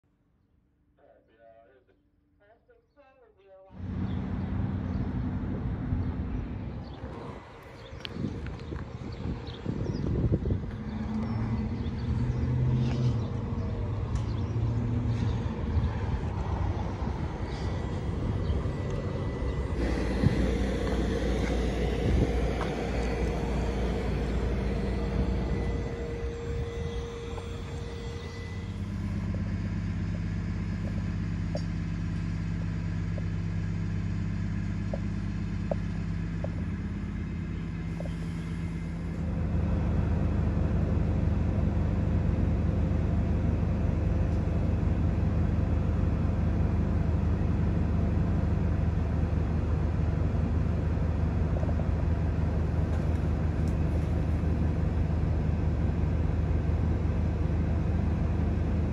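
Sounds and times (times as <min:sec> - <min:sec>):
vehicle hum and rumble: 0:03.7 - 0:58.9.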